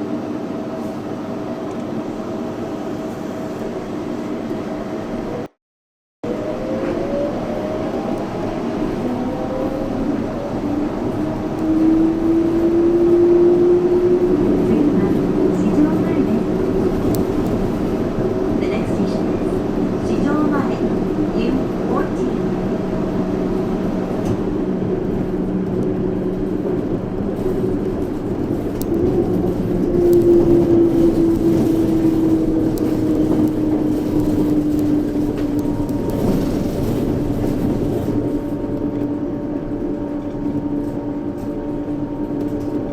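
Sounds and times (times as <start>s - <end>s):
train running rumble: 6.3s - 42.9s.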